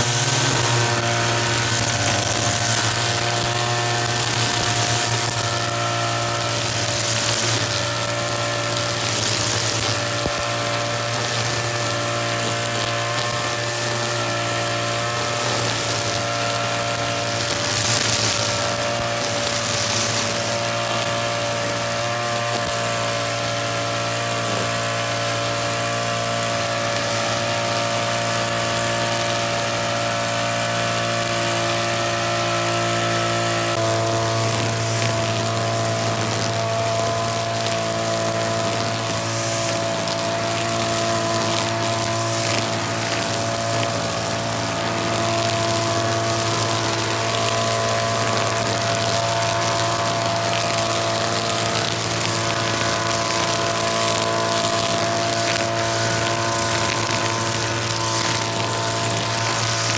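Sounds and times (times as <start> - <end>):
string trimmer running: 0.0 - 59.9
trimmer line whipping through grass: 0.0 - 59.9.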